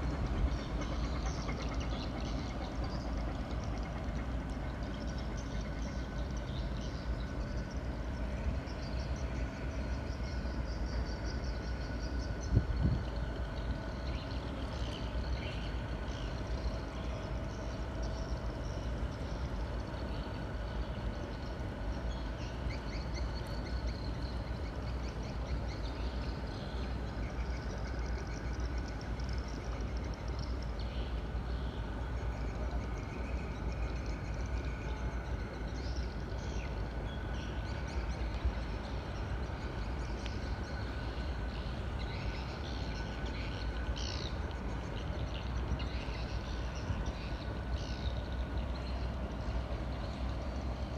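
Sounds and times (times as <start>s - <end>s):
boat engine drone: 0.0s - 50.9s
faint steady whine: 0.0s - 50.9s.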